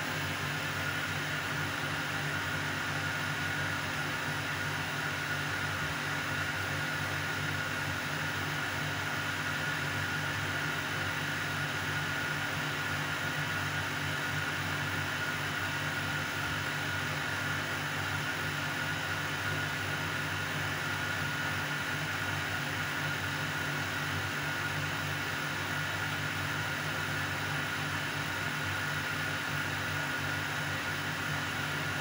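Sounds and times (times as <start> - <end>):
steady fan hiss: 0.0 - 32.0.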